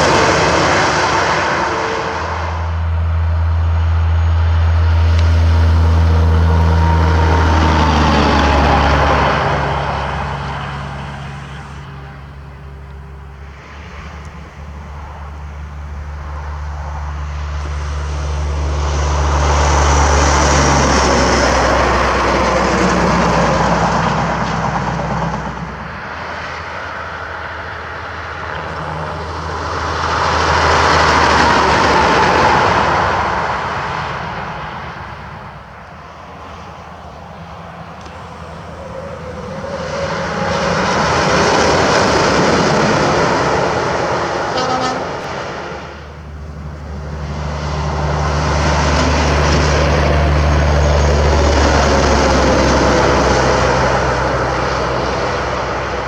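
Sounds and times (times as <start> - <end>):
trucks passing by: 0.0 - 56.0.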